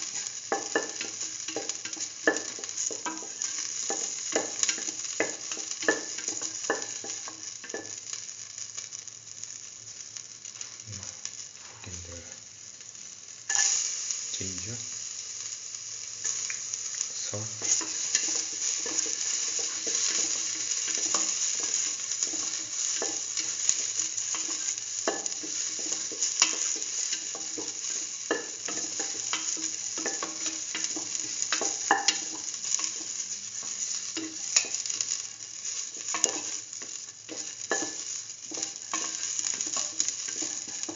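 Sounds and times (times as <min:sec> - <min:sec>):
shallots sizzling in oil: 0:00.0 - 0:40.9.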